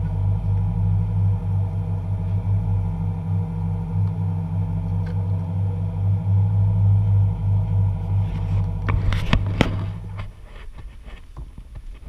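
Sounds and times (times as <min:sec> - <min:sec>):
boat engine hum: 0:00.0 - 0:11.0.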